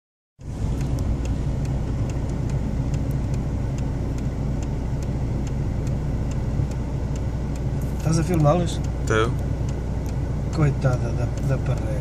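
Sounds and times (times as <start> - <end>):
car engine and road noise: 0.4 - 12.0
light regular ticking: 0.4 - 12.0.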